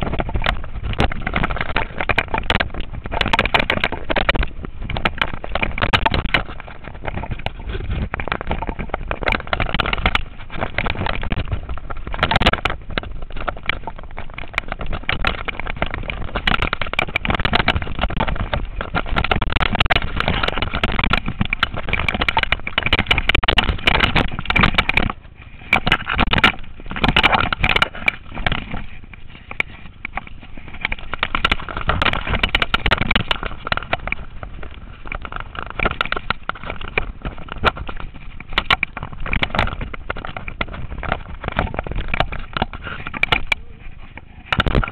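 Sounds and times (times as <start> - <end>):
bike clattering over roots and stones: 0.0 - 44.9
tyre noise on dirt: 0.0 - 44.9.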